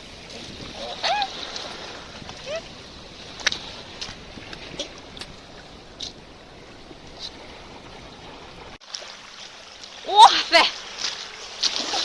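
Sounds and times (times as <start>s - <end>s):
small water splashes: 0.0s - 12.0s.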